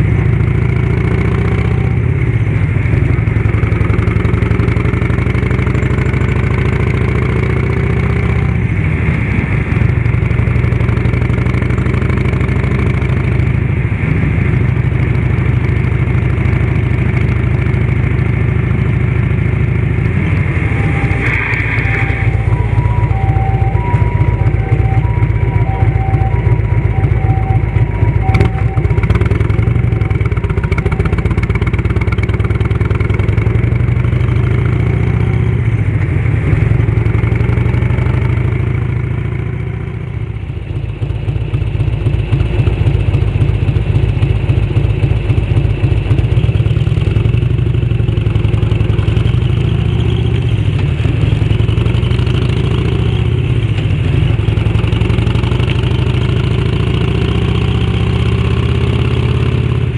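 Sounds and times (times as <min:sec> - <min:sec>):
motorcycle engine exhaust beat: 0:00.0 - 0:09.0, 0:09.6 - 0:59.9.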